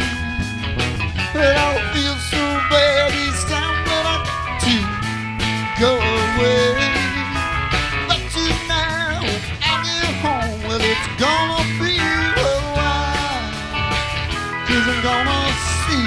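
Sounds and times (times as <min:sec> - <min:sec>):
country rock band playing: 0:00.0 - 0:16.0
pedal steel guitar sliding notes: 0:00.0 - 0:16.0.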